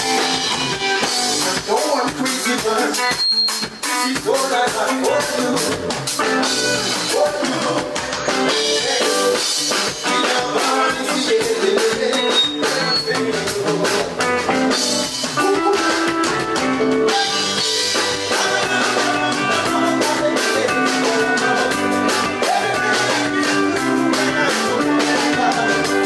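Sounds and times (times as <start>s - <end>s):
bass guitar: 0.0s - 26.0s
drum kit: 0.0s - 26.0s
guitar: 0.0s - 26.0s.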